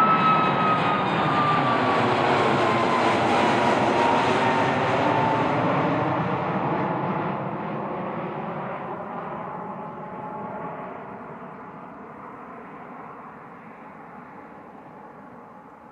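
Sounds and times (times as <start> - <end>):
jet engines rumbling: 0.0 - 15.7.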